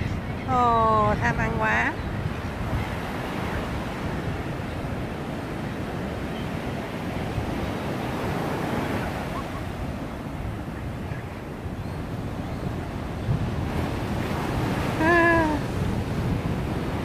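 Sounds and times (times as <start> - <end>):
ocean surf breaking on beach: 0.0 - 17.0
wind rumble on microphone: 0.0 - 17.0.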